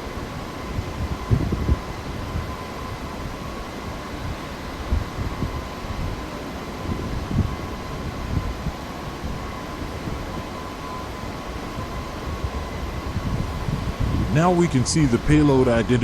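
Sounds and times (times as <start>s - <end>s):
machine hum with high whine: 0.0s - 16.0s.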